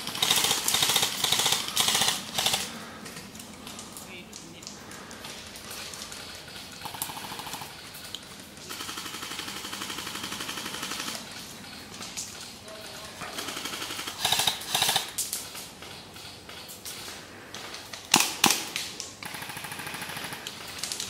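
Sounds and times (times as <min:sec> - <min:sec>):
airsoft rifles firing full-auto: 0:00.0 - 0:21.0.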